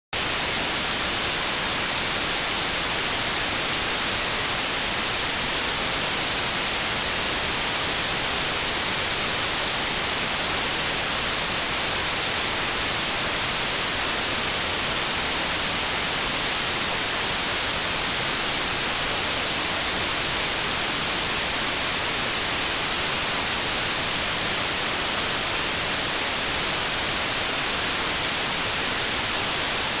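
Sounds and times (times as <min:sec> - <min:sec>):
white noise hiss: 0:00.2 - 0:30.0.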